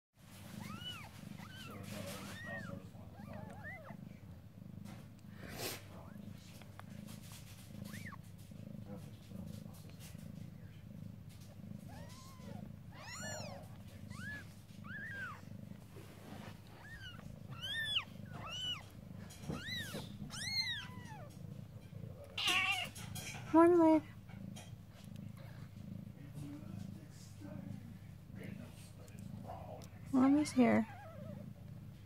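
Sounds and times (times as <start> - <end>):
kittens mewing: 0.3 - 6.6, 7.2 - 8.3, 11.7 - 26.8, 28.4 - 31.6.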